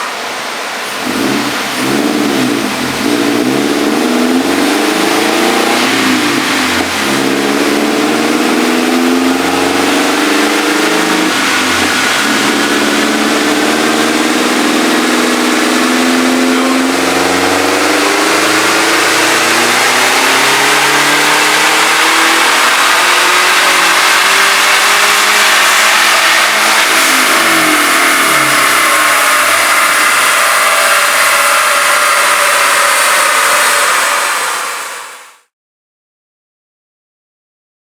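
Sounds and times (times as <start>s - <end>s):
car engine running hard: 0.0s - 35.5s.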